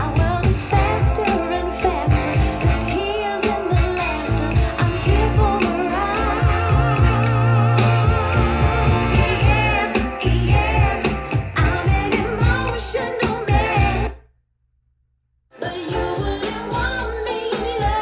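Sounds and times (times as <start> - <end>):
pop soul song with singer: 0.0 - 14.1, 15.6 - 18.0.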